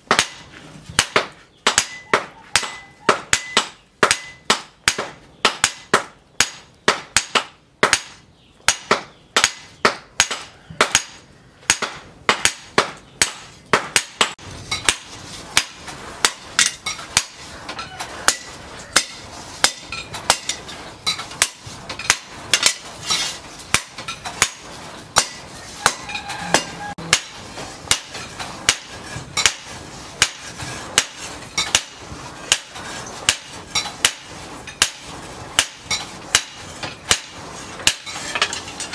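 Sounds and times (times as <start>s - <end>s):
hammer blows on hot steel: 0.0s - 38.6s.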